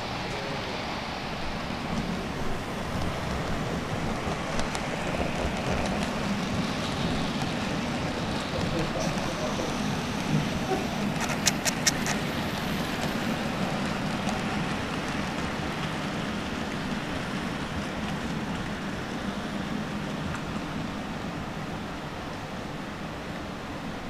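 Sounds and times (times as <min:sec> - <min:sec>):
model train running: 0:00.0 - 0:24.0.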